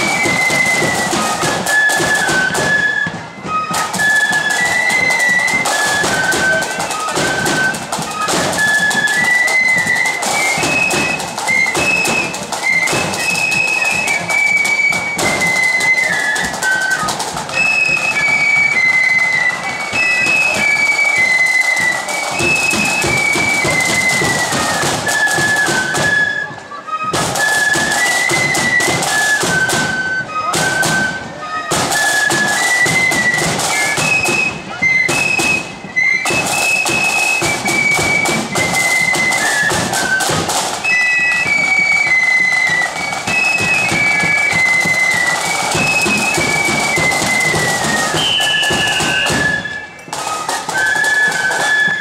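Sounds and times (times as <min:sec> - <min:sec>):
flutes playing melody: 0:00.0 - 0:52.0.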